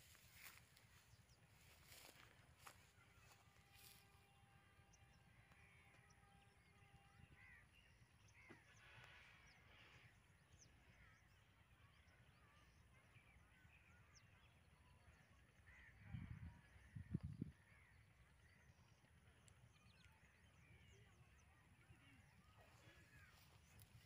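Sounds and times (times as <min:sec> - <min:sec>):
faint bird calls and chirps: 0:00.0 - 0:24.0.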